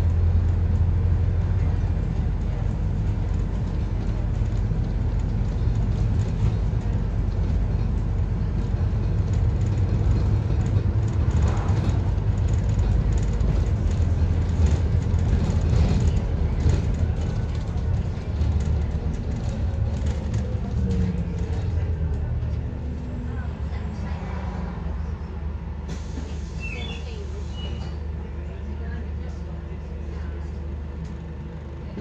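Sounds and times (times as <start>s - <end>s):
bus diesel engine drone: 0.0s - 32.0s
road noise: 0.0s - 32.0s.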